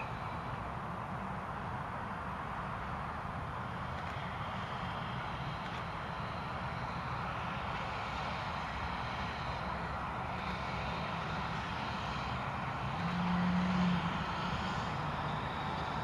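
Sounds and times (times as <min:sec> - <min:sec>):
distant steam train rumble: 0:00.0 - 0:03.0, 0:03.6 - 0:16.0.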